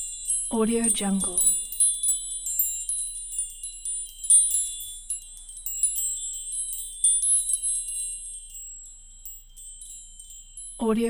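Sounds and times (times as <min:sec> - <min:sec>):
metal wind chimes ringing: 0:00.0 - 0:11.0.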